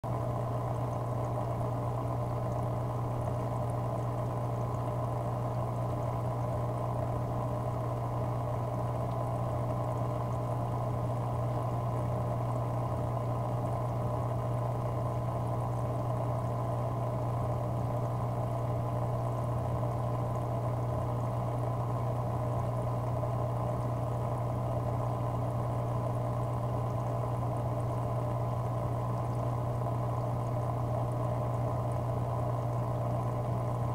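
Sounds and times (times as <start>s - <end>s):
aquarium pump humming: 0.0s - 33.9s
bubbling water: 0.1s - 33.9s.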